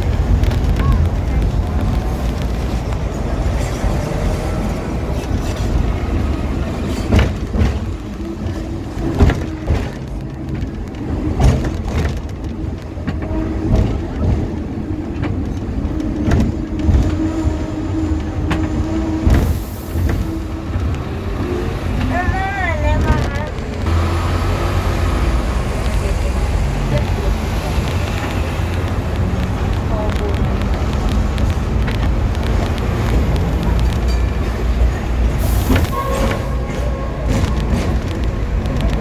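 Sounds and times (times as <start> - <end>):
tram rumble: 0.0 - 39.0.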